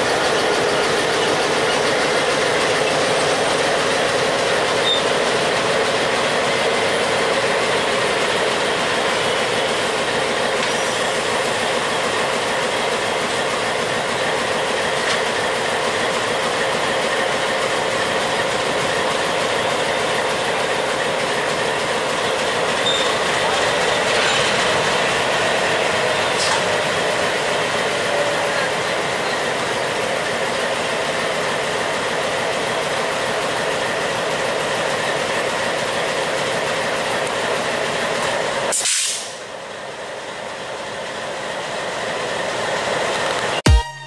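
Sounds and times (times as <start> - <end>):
diesel locomotive engine drone: 0.0 - 44.0.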